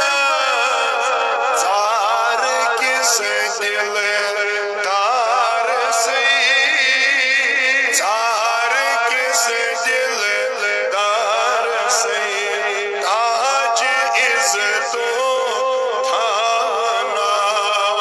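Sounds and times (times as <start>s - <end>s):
man singing into a microphone: 0.0s - 18.0s.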